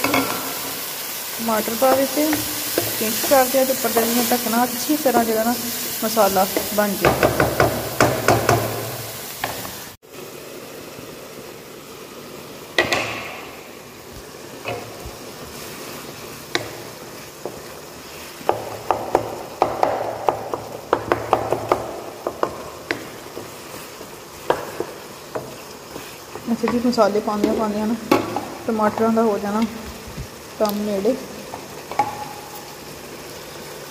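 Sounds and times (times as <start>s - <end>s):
spatula scraping and knocking wok: 0.0s - 10.0s, 12.8s - 30.4s, 31.5s - 32.7s
vegetables sizzling in hot oil: 0.0s - 33.9s.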